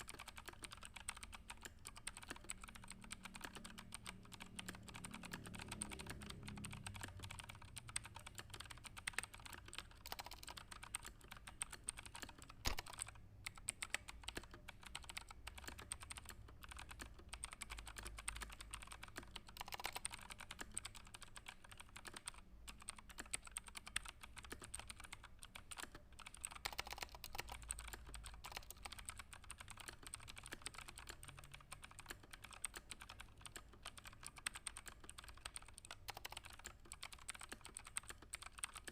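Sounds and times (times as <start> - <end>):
fast typing on computer keyboard: 0.0 - 38.9.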